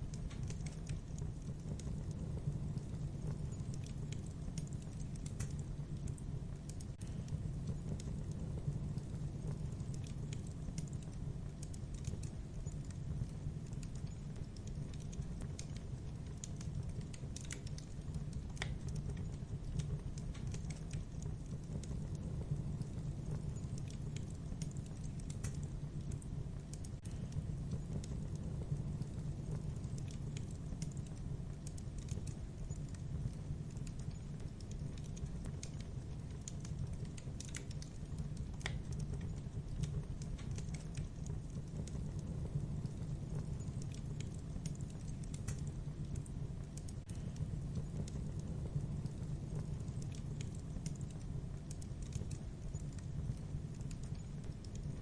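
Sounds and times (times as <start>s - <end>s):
low rumble of fire: 0.0s - 55.0s
wood crackling and popping: 0.0s - 55.0s.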